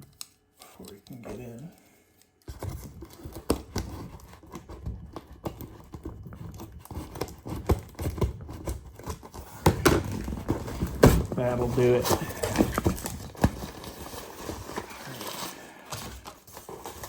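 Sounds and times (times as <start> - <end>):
cardboard box handled: 3.0 - 17.0.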